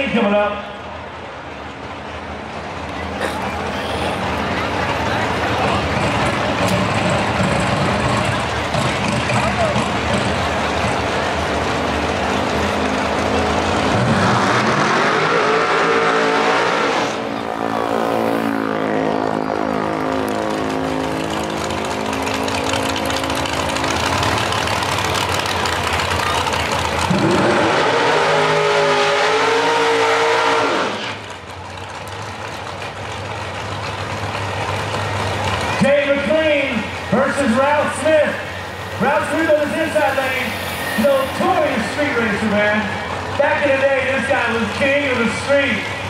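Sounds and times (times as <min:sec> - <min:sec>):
race car engines revving: 0:00.0 - 0:46.0.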